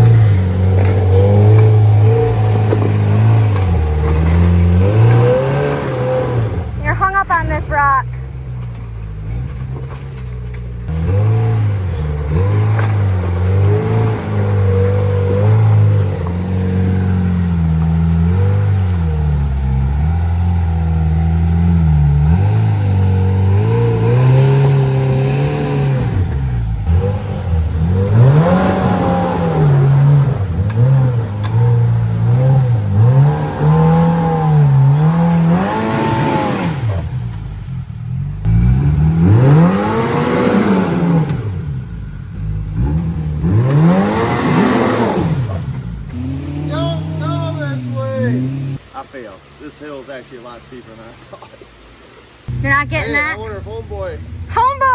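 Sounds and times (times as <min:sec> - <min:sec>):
off-road vehicle engine revving: 0:00.0 - 0:54.9.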